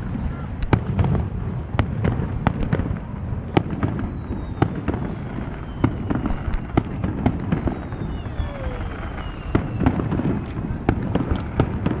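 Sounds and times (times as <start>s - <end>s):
continuous low rumble: 0.0s - 12.0s
fireworks cracks and bangs: 0.0s - 12.0s.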